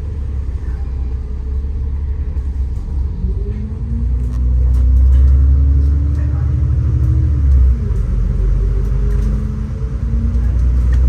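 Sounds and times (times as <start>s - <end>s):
bus engine rumble with rising whine: 0.0s - 11.0s.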